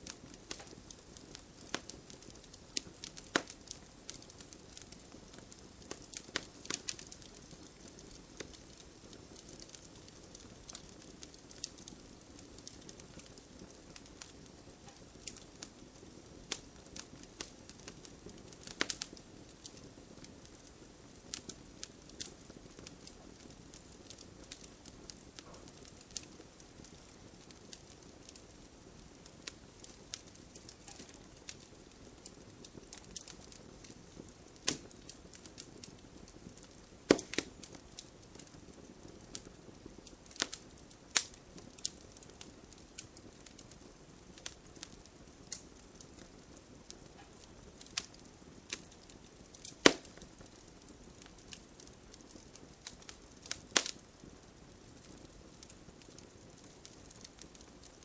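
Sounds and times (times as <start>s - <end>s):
gentle rain hiss: 0.0s - 58.0s
wood fire crackling: 0.0s - 58.0s.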